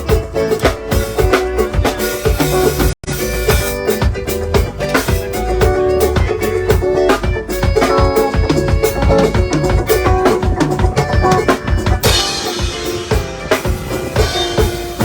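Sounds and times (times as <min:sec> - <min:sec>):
music with fast drum beat: 0:00.0 - 0:15.0.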